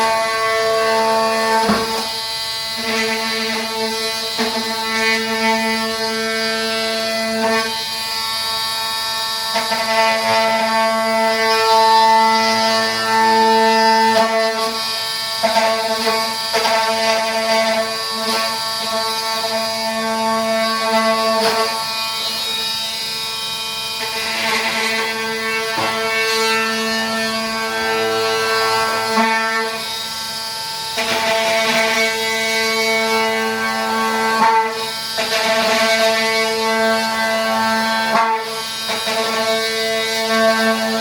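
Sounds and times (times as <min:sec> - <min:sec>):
oscillating multi-tool buzzing: 0:00.0 - 0:41.0.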